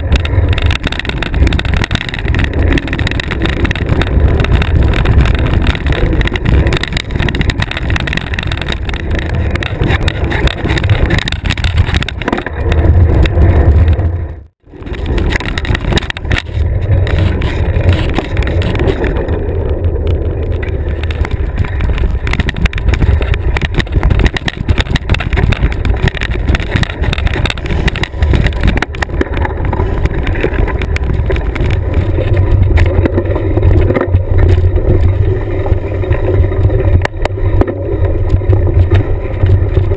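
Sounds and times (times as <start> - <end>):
bike rattling and knocking: 0.0 - 39.9
tyres crunching over trail: 0.0 - 39.9
wind rumbling on camera: 0.0 - 39.9.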